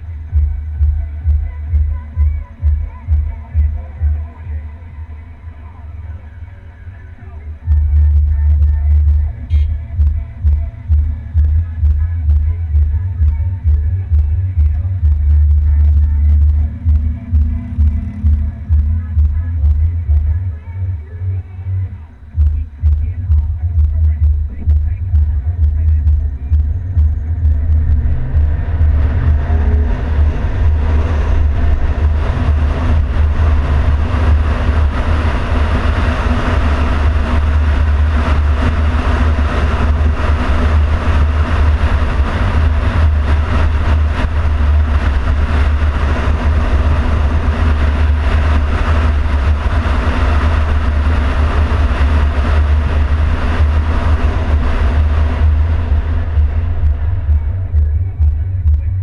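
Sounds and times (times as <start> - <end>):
wind rumble on microphone: 0.0 - 6.4, 7.2 - 59.0
car engine and road noise: 0.0 - 59.0.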